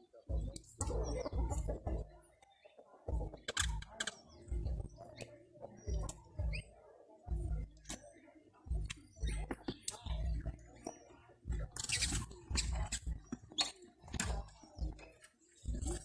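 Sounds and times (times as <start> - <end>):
bird calls: 0.0 - 16.0.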